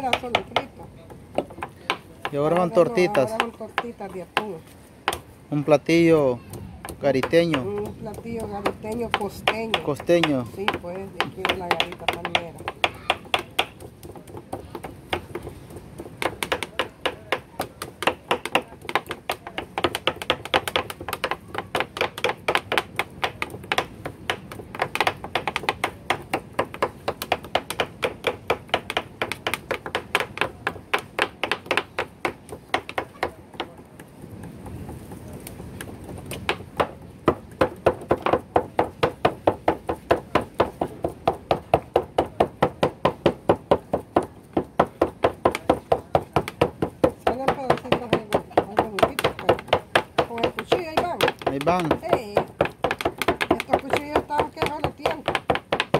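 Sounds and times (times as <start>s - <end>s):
knives chopping fish on board: 0.0s - 5.3s, 5.9s - 34.8s, 35.8s - 55.9s.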